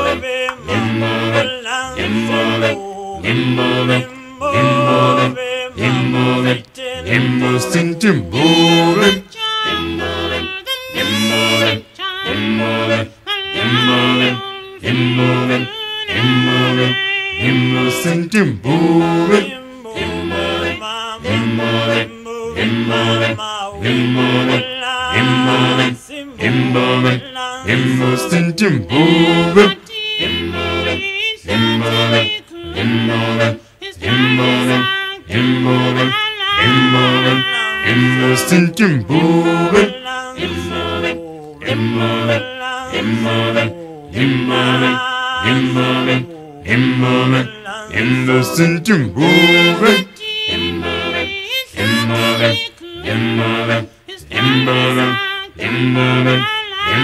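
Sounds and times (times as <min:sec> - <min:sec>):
a cappella choir singing: 0:00.0 - 0:57.0.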